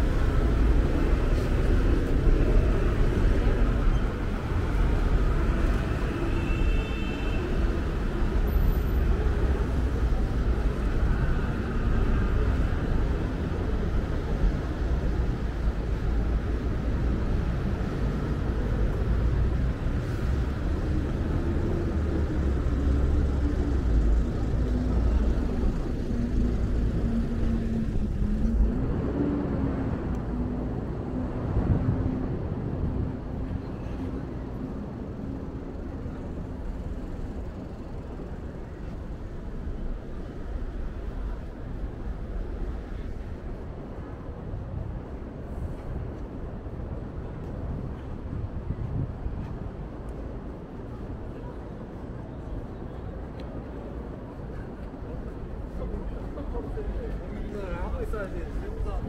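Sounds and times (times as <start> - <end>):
cars passing: 0.0 - 59.0
road traffic rumble: 0.0 - 59.0.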